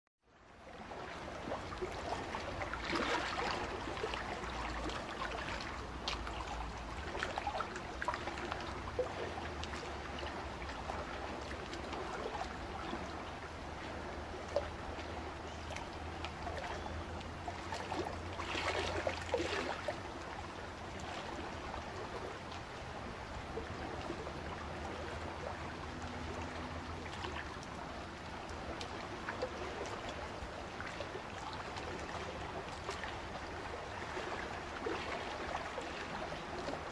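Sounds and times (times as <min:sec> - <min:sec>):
water trickling and burbling: 0:00.4 - 0:36.9.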